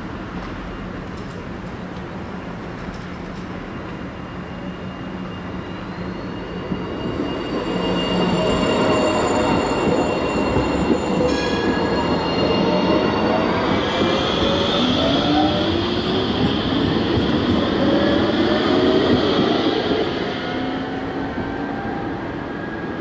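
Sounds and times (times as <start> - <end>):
wheels squealing on rails: 3.4 - 23.0
tram motors whining: 3.8 - 23.0.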